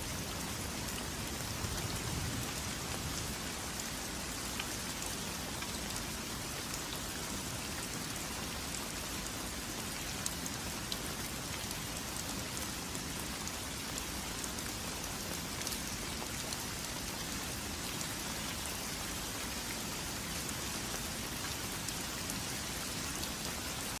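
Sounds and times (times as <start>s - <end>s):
light ticks of raindrops: 0.0s - 24.0s
steady rain falling: 0.0s - 24.0s.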